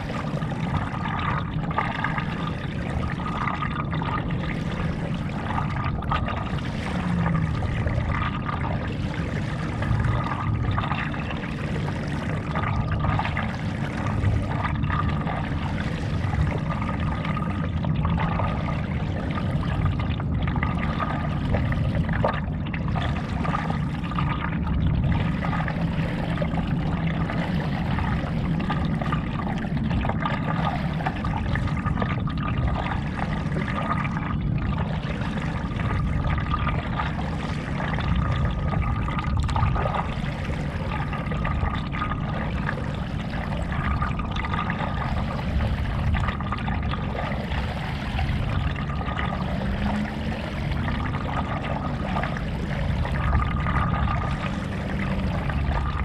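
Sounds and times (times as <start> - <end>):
water sloshing around paddleboard: 0.0 - 56.0.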